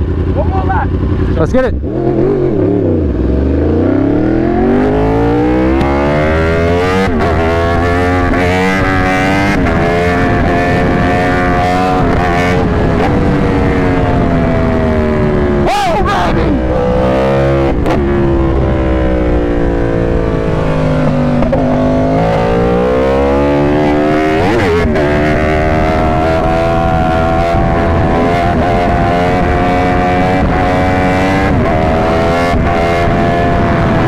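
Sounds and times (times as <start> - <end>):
motorcycle engine revving through shifts: 0.0 - 34.0.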